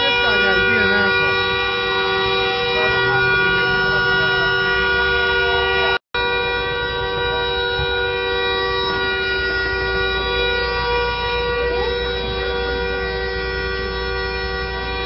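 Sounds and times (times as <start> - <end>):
car alarm horn blaring: 0.0 - 15.0.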